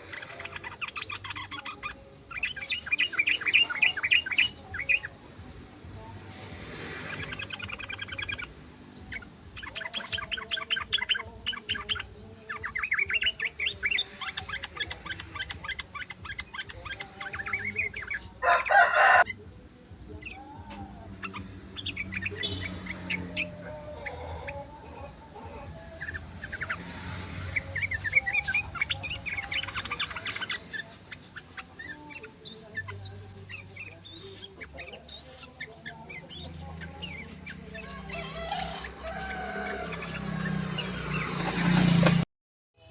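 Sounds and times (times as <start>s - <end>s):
bulbuls chattering trills: 0.0s - 42.2s.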